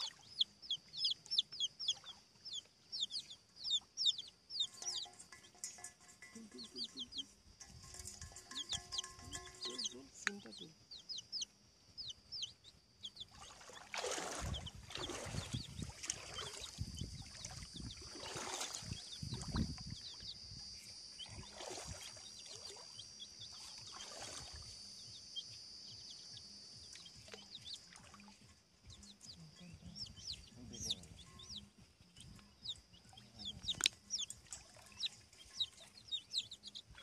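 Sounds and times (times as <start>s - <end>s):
baby chicks peeping: 0.0s - 13.6s, 14.4s - 21.4s, 22.2s - 37.0s.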